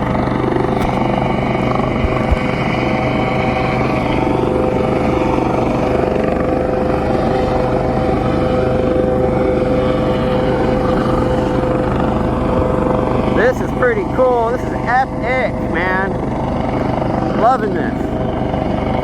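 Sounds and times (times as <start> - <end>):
helicopter hovering: 0.0 - 19.0
turbine whine: 0.0 - 19.0.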